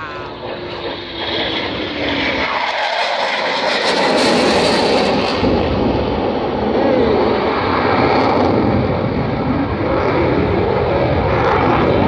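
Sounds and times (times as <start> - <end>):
deep rumble: 0.0 - 12.0
jet engine roar: 0.0 - 12.0.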